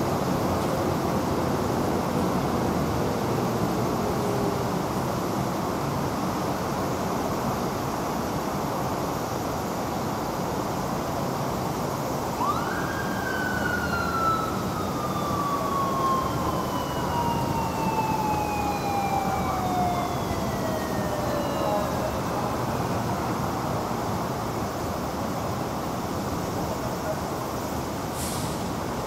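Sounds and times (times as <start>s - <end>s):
traffic noise: 0.0s - 29.0s.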